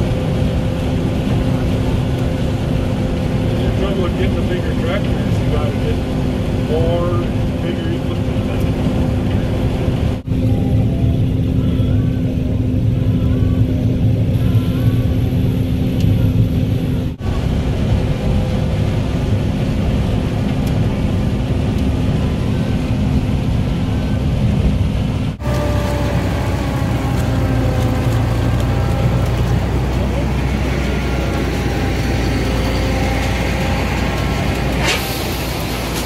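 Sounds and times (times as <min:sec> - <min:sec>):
combine harvester engine drone: 0:00.0 - 0:36.0.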